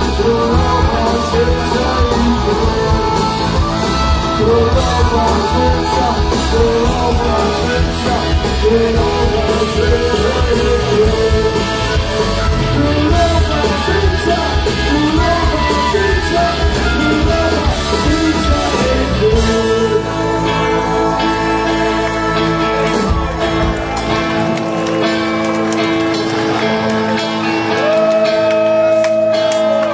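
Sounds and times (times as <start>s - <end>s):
person singing: 0.0s - 24.4s
bass guitar: 0.0s - 29.9s
electric guitars: 0.0s - 29.9s.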